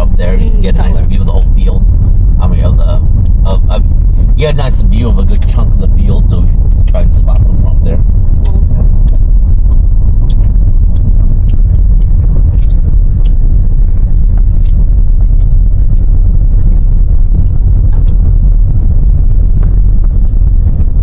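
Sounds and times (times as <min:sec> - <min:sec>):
car rumbling while driving: 0:00.0 - 0:21.0.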